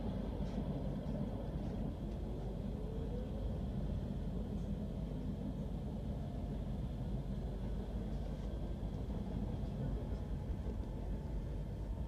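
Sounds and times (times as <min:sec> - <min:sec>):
train interior low rumble: 0:00.0 - 0:12.0.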